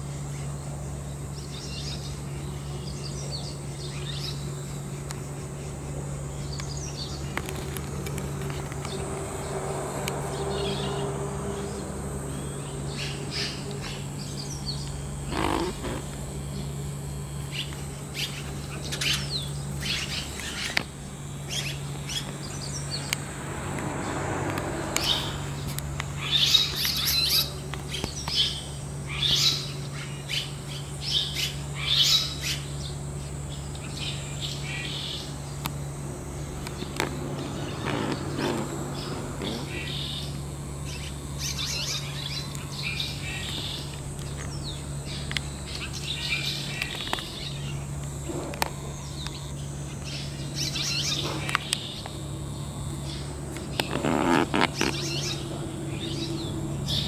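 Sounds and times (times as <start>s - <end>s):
swallows twittering: 0.0s - 9.6s, 10.2s - 23.3s, 24.9s - 57.0s
steady low hum: 0.0s - 57.0s.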